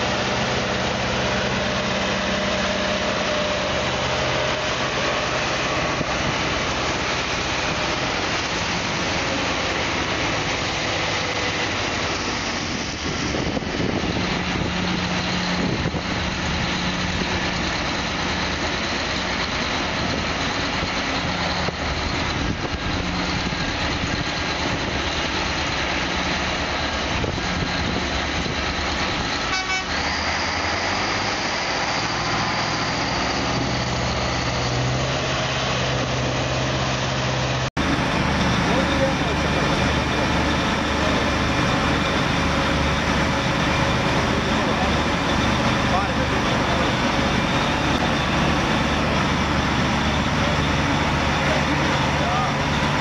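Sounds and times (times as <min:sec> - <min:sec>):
haul truck diesel engine running: 0:00.0 - 0:53.0.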